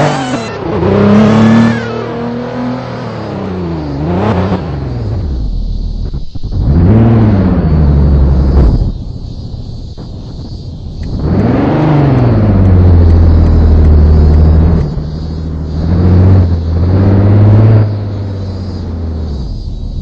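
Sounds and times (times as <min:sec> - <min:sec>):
vehicle engine revving: 0:00.0 - 0:09.1, 0:11.0 - 0:20.0.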